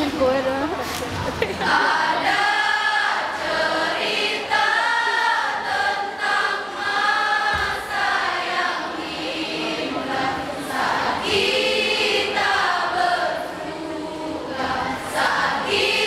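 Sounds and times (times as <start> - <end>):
choir singing in harmony: 1.4 - 16.0.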